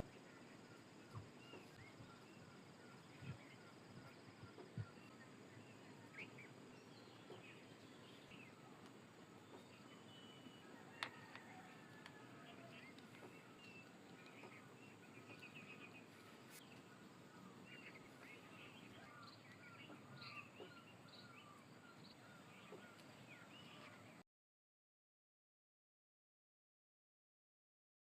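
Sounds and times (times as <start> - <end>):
low steady hiss: 0.0 - 24.2
small birds chirping: 0.0 - 24.2.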